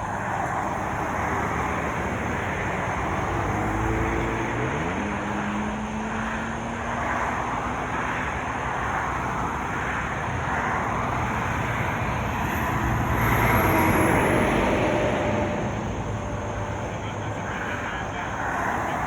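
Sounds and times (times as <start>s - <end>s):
car engines: 0.0s - 19.0s.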